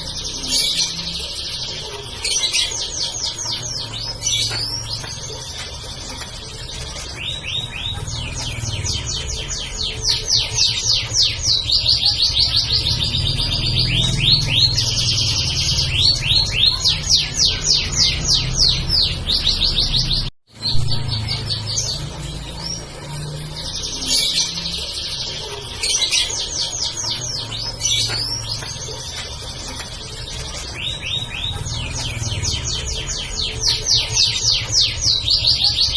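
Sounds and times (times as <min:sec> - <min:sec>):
canary singing trills: 0:00.0 - 0:35.9.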